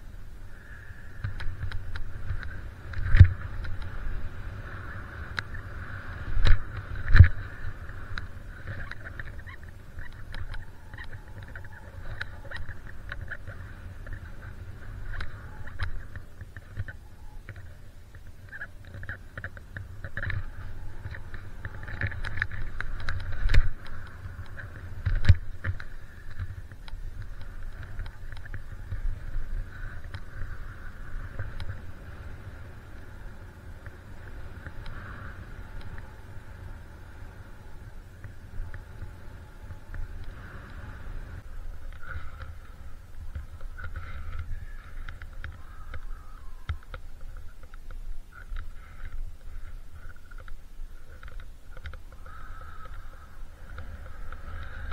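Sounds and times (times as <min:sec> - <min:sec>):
wind rumbling on microphone: 0:00.0 - 0:54.9.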